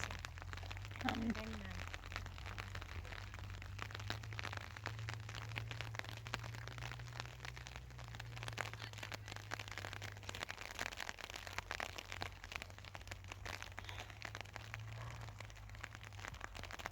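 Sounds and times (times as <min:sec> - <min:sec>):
low steady hum: 0:00.0 - 0:16.9
rain pattering on a tent: 0:00.0 - 0:16.9.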